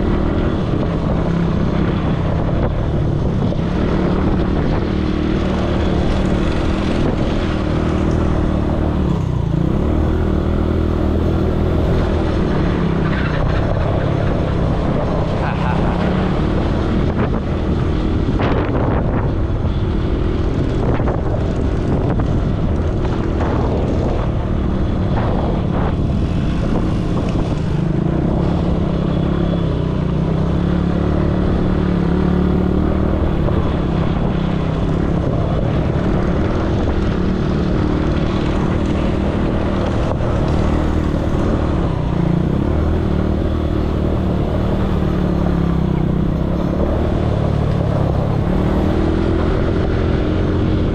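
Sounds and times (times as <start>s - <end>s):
quad bike engine droning: 0.0s - 50.9s.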